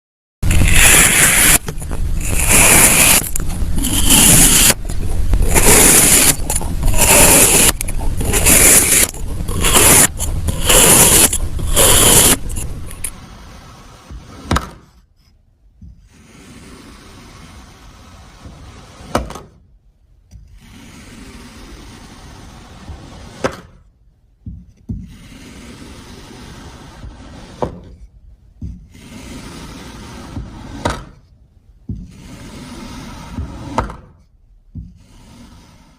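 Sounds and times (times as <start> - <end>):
tool scraping kinetic sand: 0.4 - 19.2, 20.4 - 23.8, 24.8 - 35.9.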